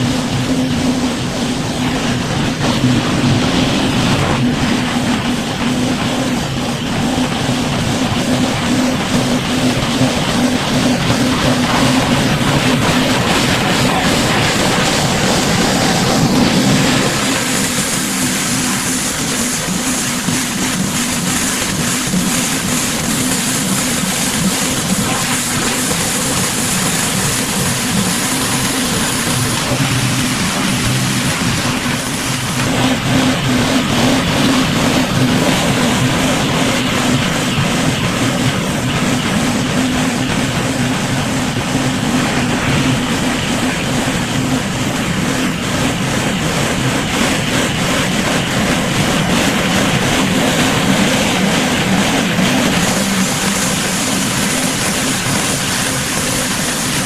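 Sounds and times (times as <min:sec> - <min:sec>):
pressure washer engine hum: 0:00.0 - 0:57.0
water jet hissing: 0:00.0 - 0:57.0.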